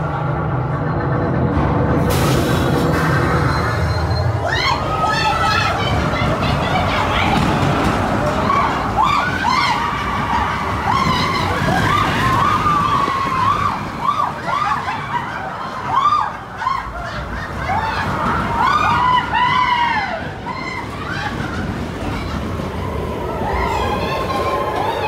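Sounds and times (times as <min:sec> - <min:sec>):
roller coaster rumbling on track: 0:00.0 - 0:25.0
riders screaming and whooping: 0:04.0 - 0:25.0.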